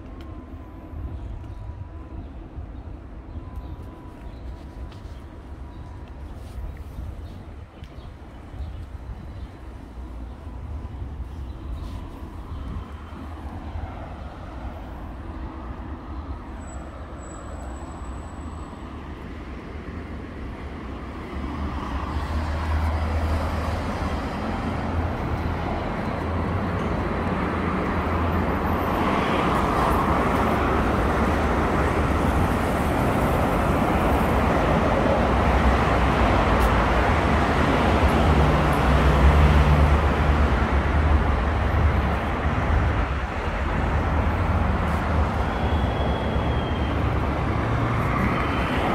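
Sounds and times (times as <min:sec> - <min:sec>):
cars passing on city street: 0:00.0 - 0:48.9.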